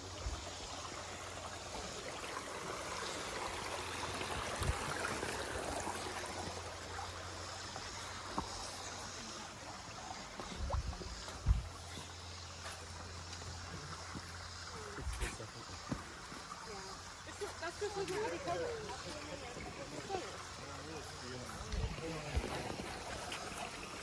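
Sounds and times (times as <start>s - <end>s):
creek rushing and trickling: 0.0s - 24.0s.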